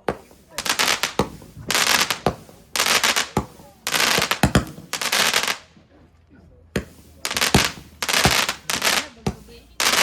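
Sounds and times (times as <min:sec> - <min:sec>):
sharp firework cracks: 0:00.0 - 0:05.7, 0:06.8 - 0:10.0
fireworks bangs with hissing crackle: 0:00.0 - 0:05.8, 0:06.7 - 0:10.0.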